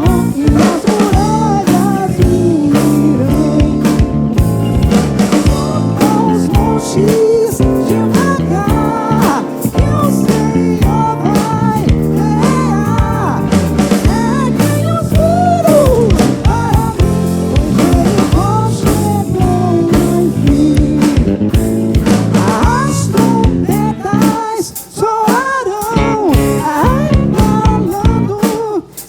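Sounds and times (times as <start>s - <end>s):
wavering lead melody: 0.0s - 24.0s
drums keeping steady beat: 0.0s - 29.0s
soul band playing live: 0.0s - 29.0s.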